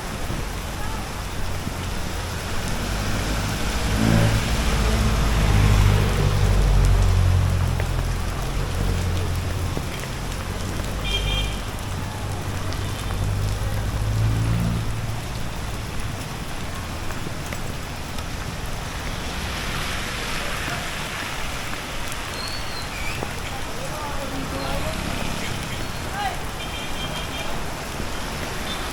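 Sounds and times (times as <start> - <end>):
steady rain: 0.0 - 28.9
vehicle engine rumble: 0.0 - 28.9.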